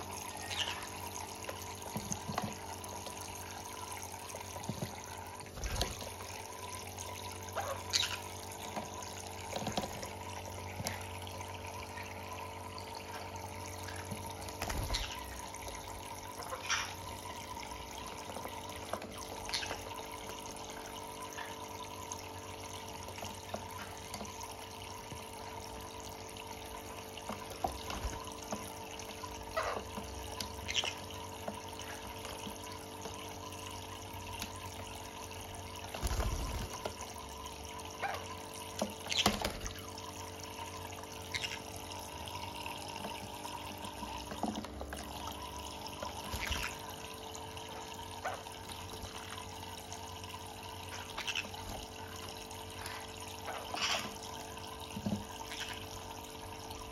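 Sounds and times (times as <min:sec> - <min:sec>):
birds splashing in water: 0:00.0 - 0:21.7, 0:26.8 - 0:49.7, 0:50.3 - 0:54.6
faint steady hum: 0:00.0 - 0:56.9
water trickling into basin: 0:00.0 - 0:56.9.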